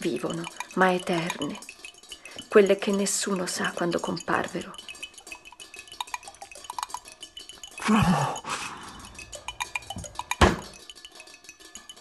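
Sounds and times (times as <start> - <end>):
metallic chime-like clinks: 0.0 - 12.0.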